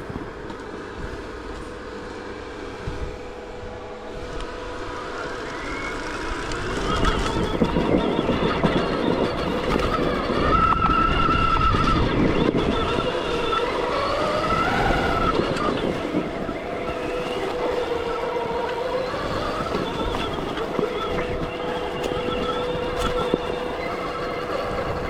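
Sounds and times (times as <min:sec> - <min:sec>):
electric motor whine: 0:00.0 - 0:25.0
rumble and rattle of rough ground: 0:00.0 - 0:25.0
wind noise: 0:00.0 - 0:25.0.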